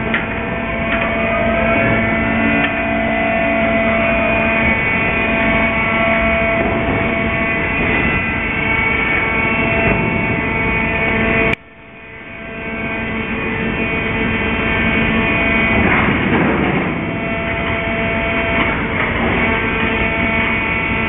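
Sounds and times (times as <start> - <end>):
crane hoist machinery whining: 0.0 - 21.0.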